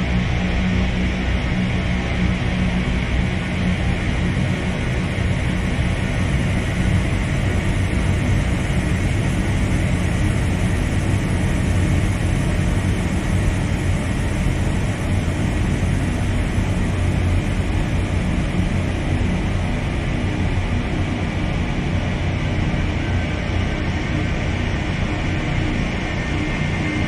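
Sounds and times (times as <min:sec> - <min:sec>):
dark ambient drone music: 0:00.0 - 0:27.0.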